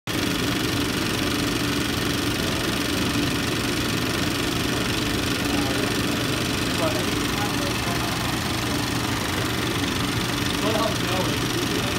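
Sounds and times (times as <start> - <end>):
fan noise: 0.1 - 11.9
film projector whirring: 0.1 - 11.9
steady hum: 0.1 - 11.9.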